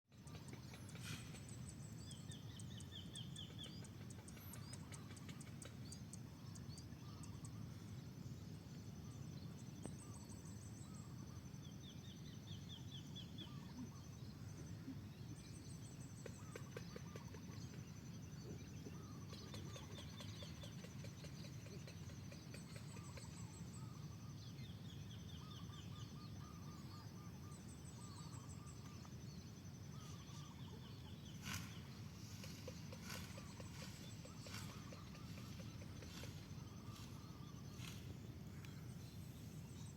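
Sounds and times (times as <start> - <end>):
birds calling and trilling: 0.1 - 39.9.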